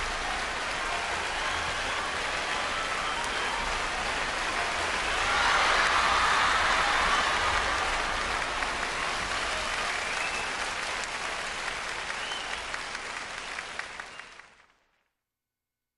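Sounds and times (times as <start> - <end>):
concert audience applauding: 0.0 - 15.1.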